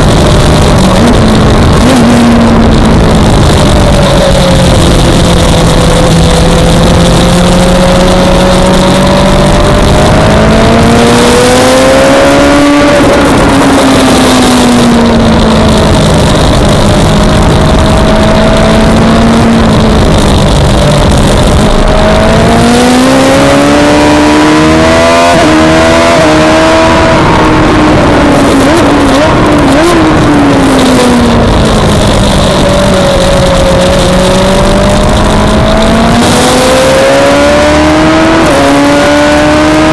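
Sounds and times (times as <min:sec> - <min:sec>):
heavy wind noise: 0:00.0 - 0:39.9
motorcycle engine at racing speed: 0:00.0 - 0:39.9.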